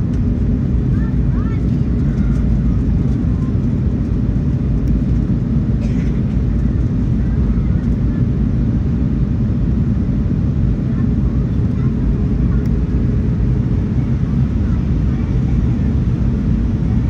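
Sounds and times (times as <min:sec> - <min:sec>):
jet plane rumble: 0:00.0 - 0:17.0.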